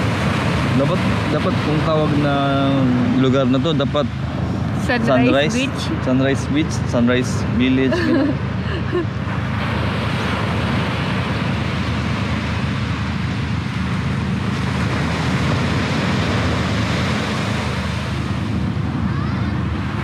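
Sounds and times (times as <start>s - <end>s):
sea surf breaking: 0.0s - 20.0s.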